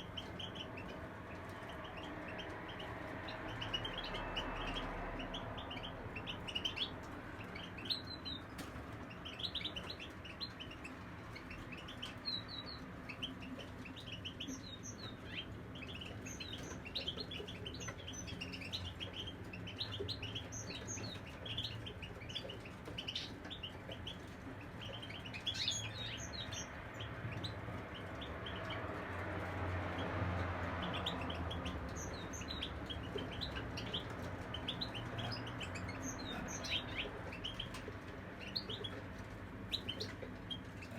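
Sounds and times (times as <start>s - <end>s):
goldfinches chirping and twittering: 0.0s - 40.9s.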